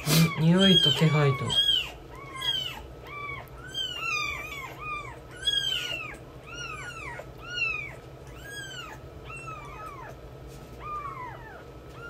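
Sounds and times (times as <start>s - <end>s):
kittens mewing: 0.0s - 12.0s.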